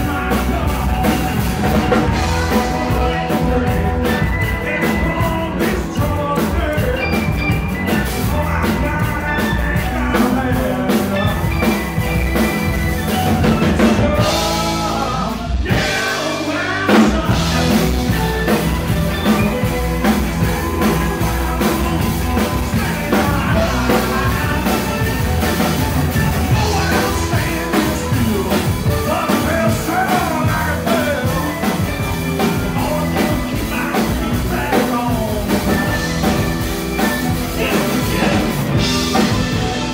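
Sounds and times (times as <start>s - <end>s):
blues-rock band playing: 0.0s - 39.9s
person singing: 0.0s - 39.9s.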